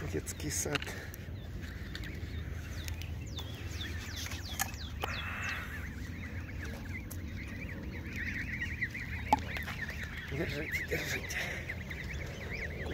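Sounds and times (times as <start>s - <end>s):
goslings peeping: 0.0s - 12.9s.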